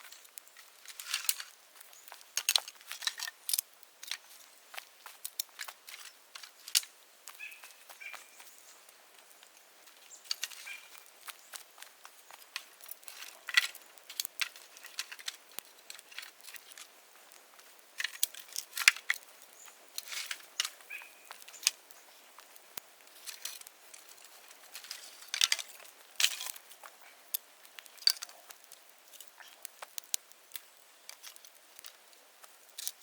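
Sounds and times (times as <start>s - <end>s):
bonfire crackling and popping: 0.0s - 33.0s.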